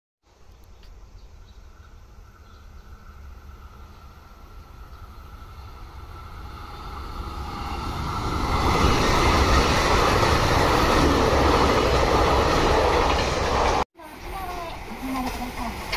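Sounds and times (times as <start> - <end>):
diesel train approaching: 0.9 - 15.9.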